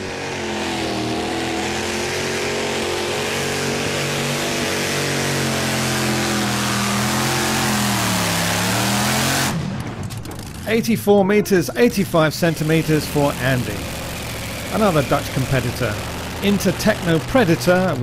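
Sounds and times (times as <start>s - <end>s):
tractor engine under load: 1.7s - 18.0s.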